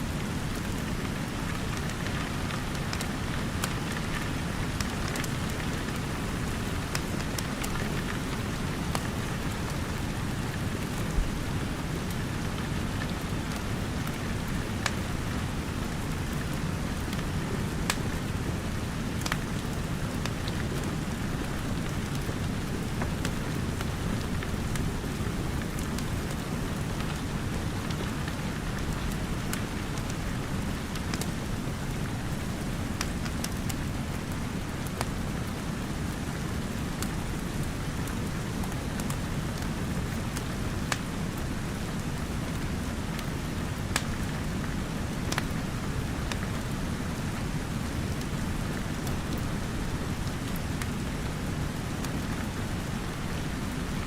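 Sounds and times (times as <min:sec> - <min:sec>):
steady rain: 0:00.0 - 0:54.0
wood fire crackling: 0:00.1 - 0:54.0.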